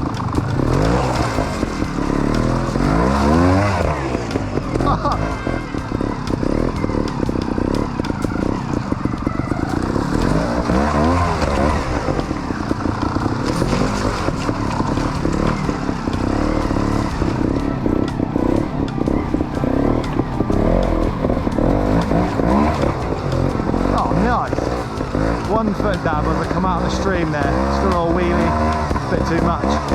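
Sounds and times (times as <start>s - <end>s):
motorbike engine revving: 0.0s - 29.9s.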